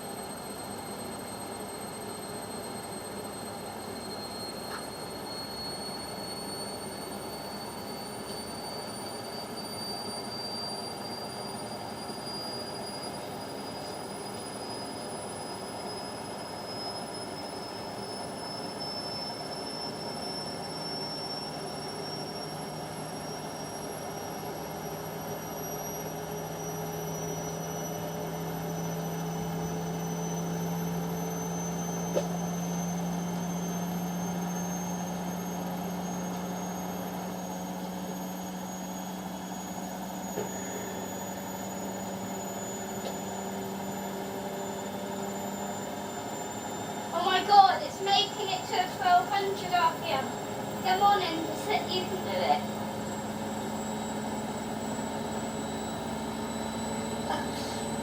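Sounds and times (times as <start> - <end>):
washing machine motor whine: 0.0 - 58.0.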